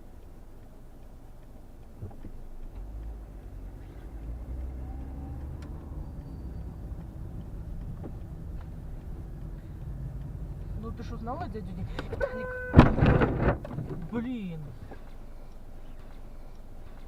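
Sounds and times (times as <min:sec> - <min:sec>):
faint clicks: 0:00.0 - 0:12.9, 0:13.6 - 0:17.0
car driving rumble inside cabin: 0:00.0 - 0:17.0.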